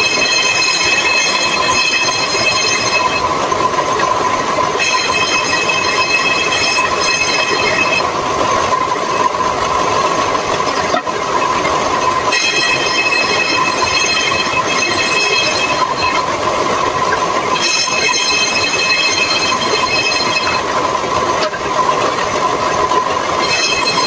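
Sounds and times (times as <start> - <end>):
table saw whining: 0.0 - 9.4, 10.5 - 20.7, 23.4 - 24.0.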